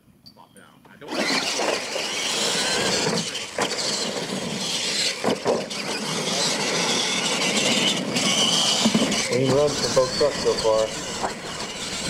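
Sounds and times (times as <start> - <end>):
toy truck motors whirring: 1.0 - 12.0
tyre noise: 1.1 - 12.0.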